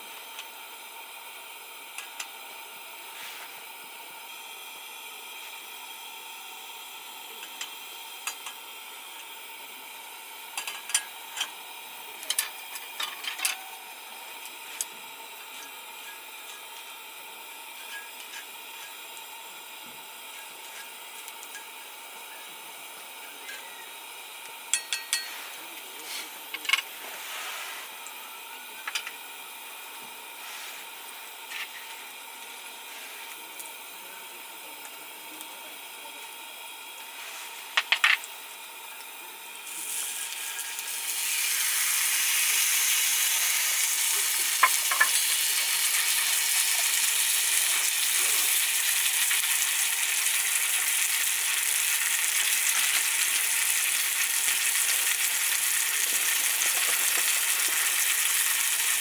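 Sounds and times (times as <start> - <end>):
steady sizzle: 0.0 - 59.0.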